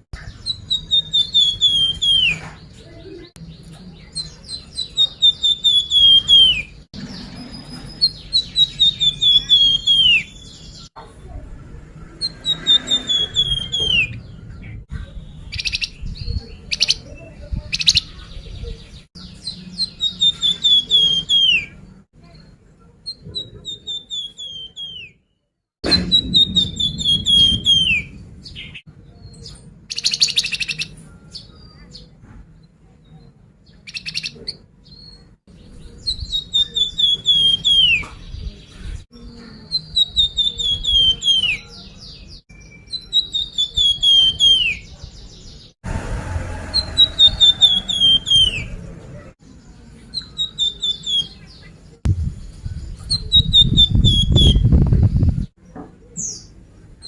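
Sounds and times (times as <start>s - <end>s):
bird singing falling chirps: 0.0s - 11.0s, 12.2s - 25.2s, 25.8s - 32.1s, 33.6s - 45.8s, 46.8s - 48.8s, 49.6s - 56.5s.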